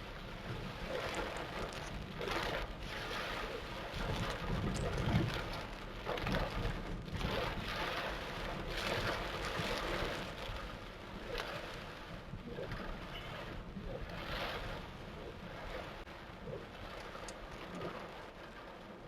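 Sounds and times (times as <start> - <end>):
torrential rain pouring: 0.0 - 19.0.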